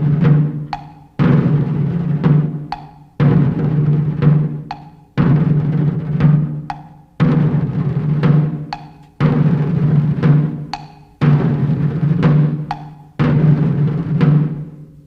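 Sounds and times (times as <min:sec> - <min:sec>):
heavy drum beat: 0:00.0 - 0:15.0.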